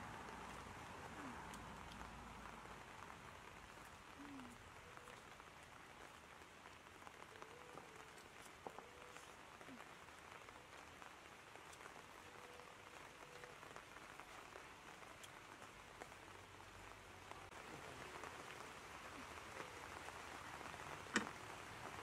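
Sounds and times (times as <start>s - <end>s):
faint outdoor hiss: 0.0s - 22.0s.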